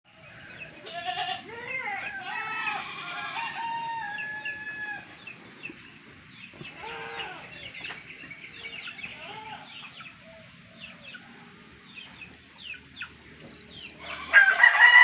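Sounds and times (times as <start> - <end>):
chickens calling: 0.1 - 15.0.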